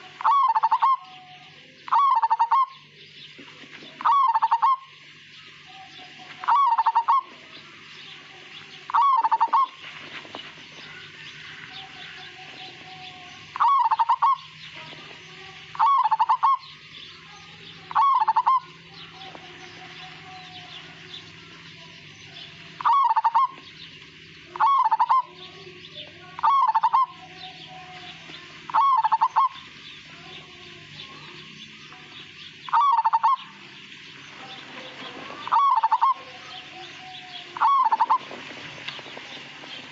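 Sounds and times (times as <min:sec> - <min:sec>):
dove cooing: 0:00.0 - 0:23.8, 0:24.4 - 0:39.9.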